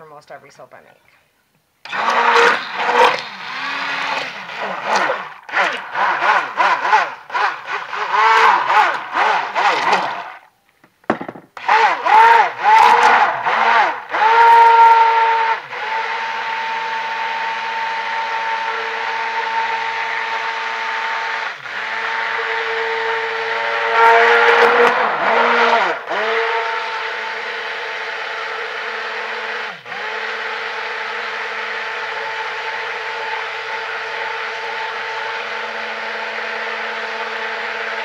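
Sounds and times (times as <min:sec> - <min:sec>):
stick blender motor whining: 0:01.8 - 0:10.5, 0:11.6 - 0:38.0.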